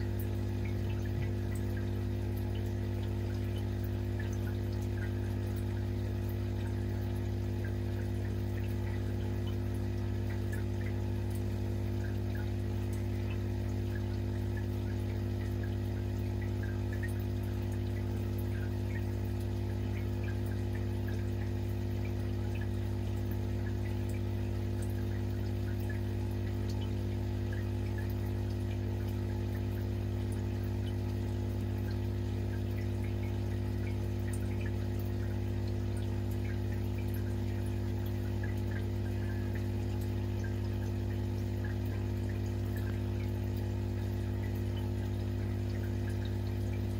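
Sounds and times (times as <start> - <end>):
aquarium pump humming: 0.0 - 46.9
faint water trickling: 0.0 - 46.9
water dripping: 0.0 - 46.9.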